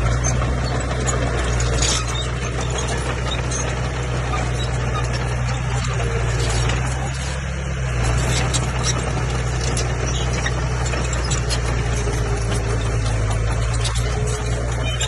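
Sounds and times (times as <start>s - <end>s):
bulldozer diesel engine running: 0.0s - 15.0s
high-pitched squealing: 0.0s - 15.0s.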